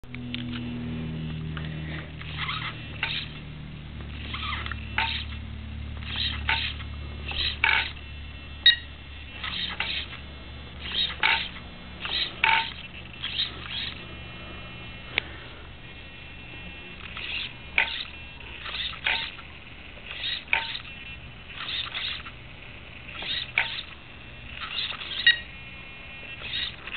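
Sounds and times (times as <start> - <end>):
steering servo whirring: 0.3 - 26.9.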